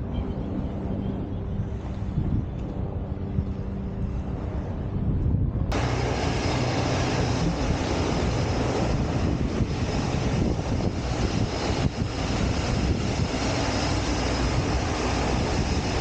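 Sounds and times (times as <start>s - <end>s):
helicopter engine and rotor: 0.0s - 4.8s, 5.7s - 16.0s.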